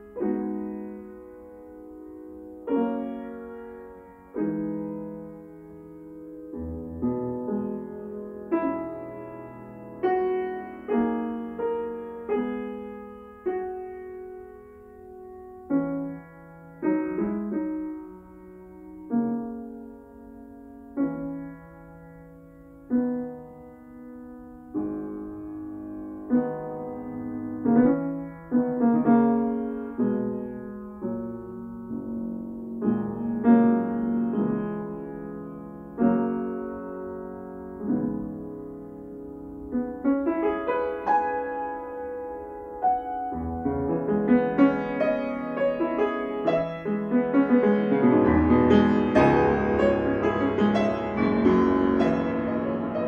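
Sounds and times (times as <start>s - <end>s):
grand piano chords: 0.0s - 53.0s.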